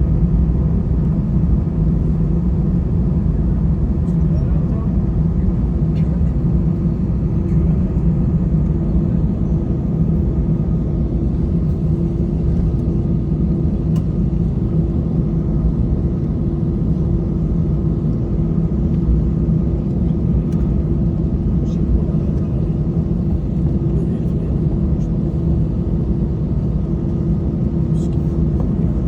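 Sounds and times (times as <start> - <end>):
aircraft cabin engine hum: 0.0 - 29.0.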